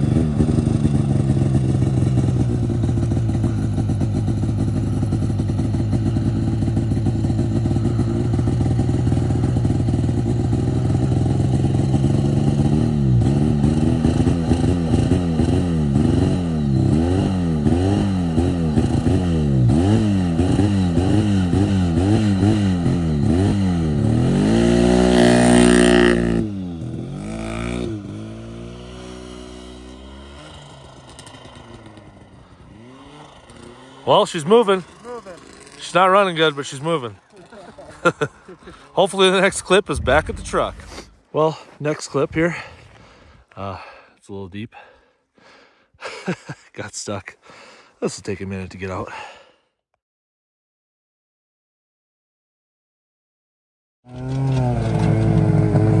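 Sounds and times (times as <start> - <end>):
snowmobile engine revving: 0.0 - 43.3, 54.1 - 56.0.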